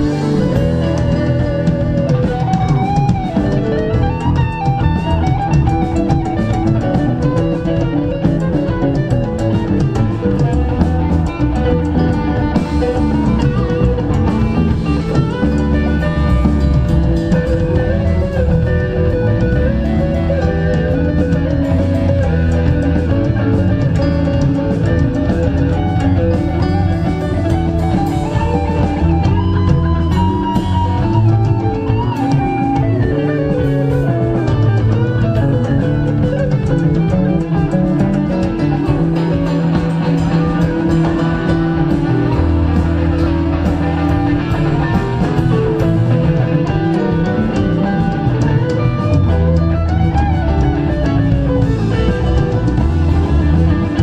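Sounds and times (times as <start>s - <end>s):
bass guitar: 0.0s - 54.0s
drum kit: 0.0s - 54.0s
electric lead guitar: 0.0s - 54.0s.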